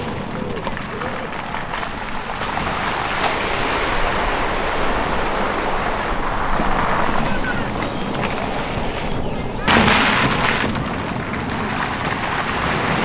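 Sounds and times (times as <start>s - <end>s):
tyres splashing through water: 0.0s - 13.0s.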